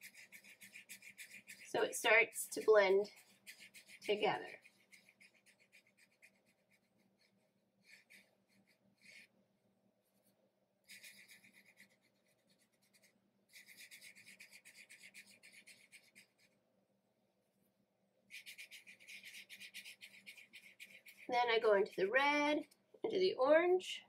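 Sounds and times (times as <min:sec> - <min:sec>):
fingertips rubbing pastel on paper: 0:00.0 - 0:09.3, 0:10.1 - 0:16.6, 0:18.3 - 0:22.8.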